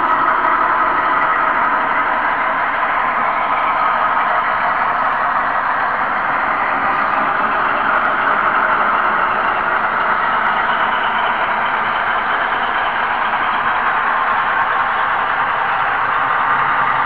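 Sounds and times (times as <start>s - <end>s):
model train rushing noise: 0.0s - 17.0s.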